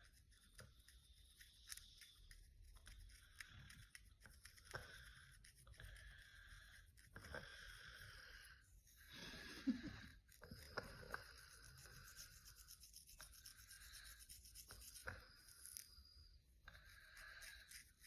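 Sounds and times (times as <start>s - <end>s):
fingernails scratching scalp: 0.0s - 18.0s.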